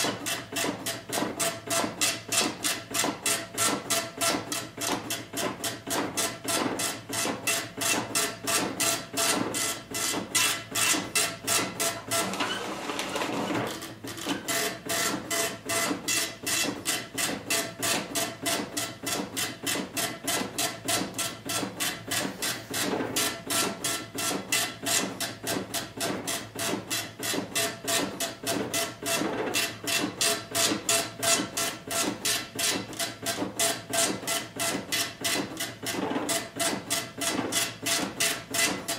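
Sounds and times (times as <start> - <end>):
dot-matrix printer printing: 0.0 - 38.9.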